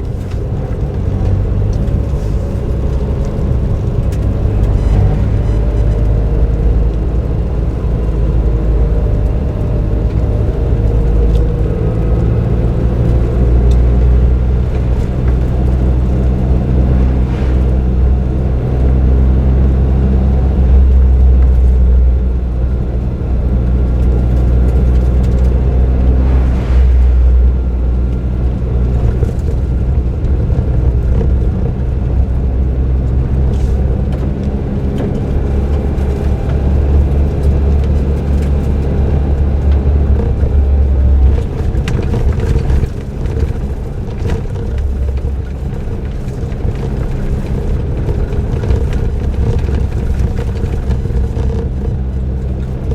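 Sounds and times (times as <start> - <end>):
car engine droning: 0.0 - 52.9
road noise: 0.0 - 52.9.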